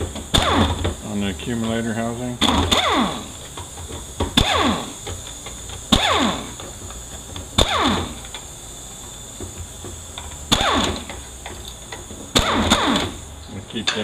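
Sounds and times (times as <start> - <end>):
power ratchet whining in bursts: 0.0 - 14.0.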